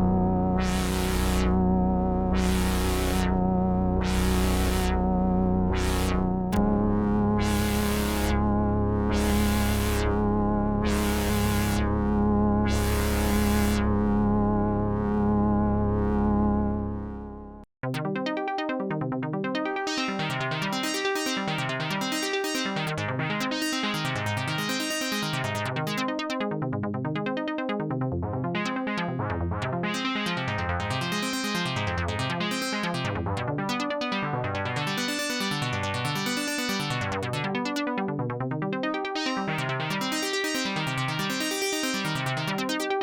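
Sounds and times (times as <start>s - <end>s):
analog synthesizer playing: 0.0s - 17.4s, 19.5s - 26.0s, 29.9s - 37.8s, 38.8s - 43.0s.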